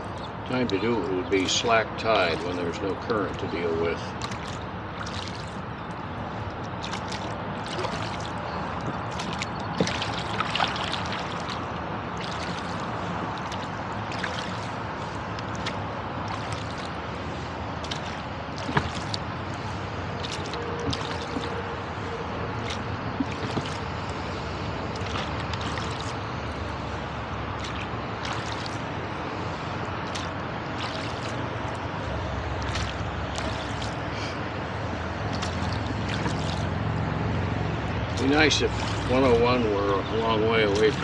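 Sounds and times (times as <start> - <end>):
highway traffic hum: 0.0 - 41.0
oars splashing in river water: 0.0 - 41.0.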